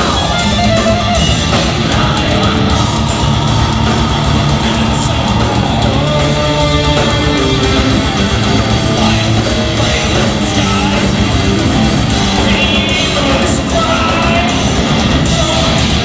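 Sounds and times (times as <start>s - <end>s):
metal band playing: 0.0s - 16.0s.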